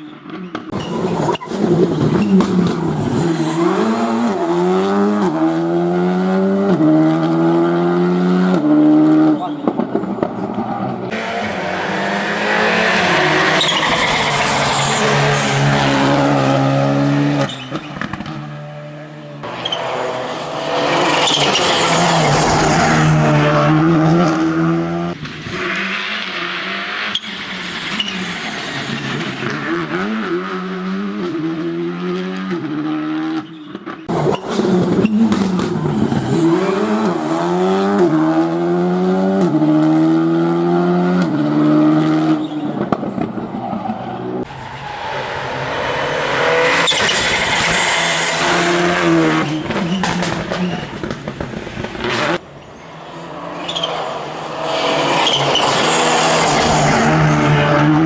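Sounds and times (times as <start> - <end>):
rally cars revving past: 1.0 - 58.0.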